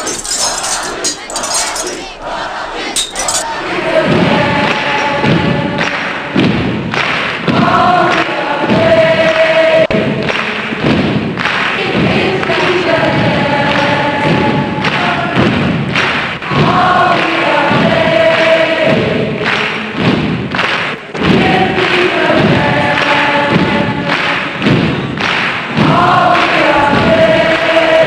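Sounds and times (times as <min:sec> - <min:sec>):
crowd chanting in unison: 0:00.0 - 0:20.1, 0:21.0 - 0:28.0.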